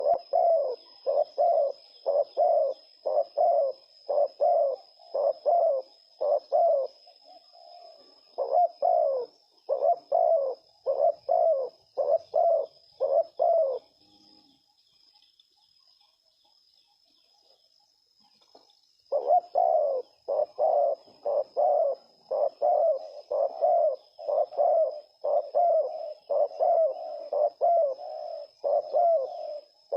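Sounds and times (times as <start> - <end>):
dove cooing: 0.0 - 14.6, 19.1 - 29.9.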